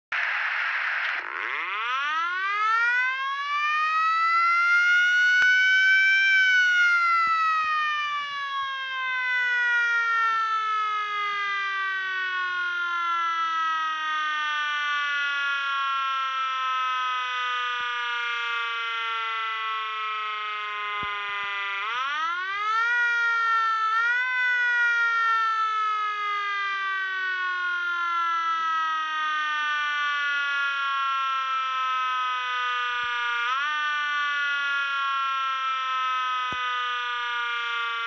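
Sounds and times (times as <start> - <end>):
mechanical siren wailing: 0.2 - 38.0.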